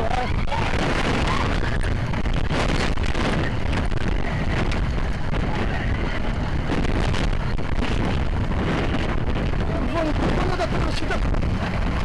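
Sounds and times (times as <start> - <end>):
roller coaster rumbling on track: 0.0 - 12.0
wind on microphone: 0.0 - 12.0.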